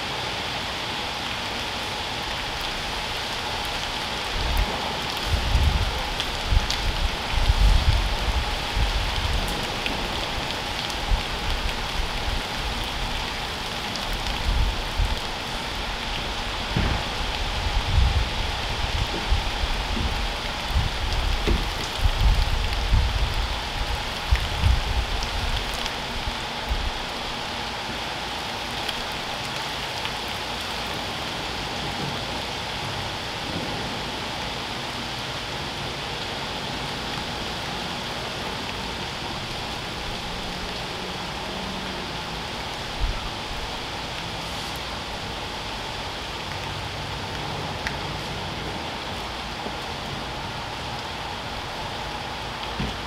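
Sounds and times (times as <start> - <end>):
rain on pavement: 0.0 - 53.0.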